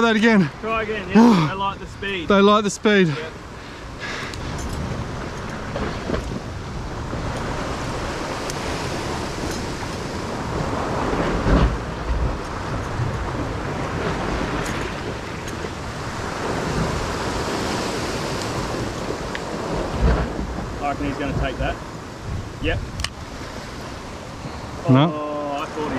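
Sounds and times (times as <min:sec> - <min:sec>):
wind buffeting microphone: 0:00.0 - 0:25.9
ocean swell washing over rocks: 0:00.1 - 0:25.9.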